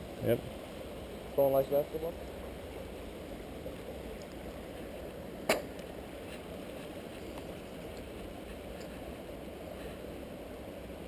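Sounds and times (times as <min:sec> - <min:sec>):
low rushing background: 0:00.0 - 0:11.0.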